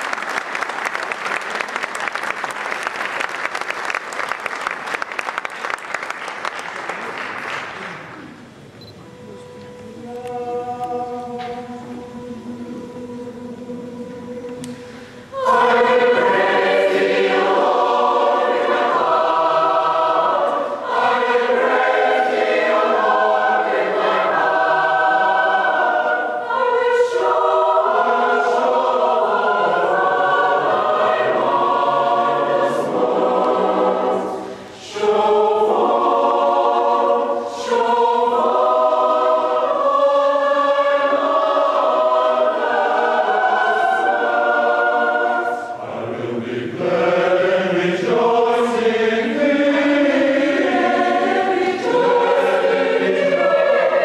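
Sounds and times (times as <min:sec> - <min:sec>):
mixed choir singing in harmony: 0:08.8 - 0:54.0.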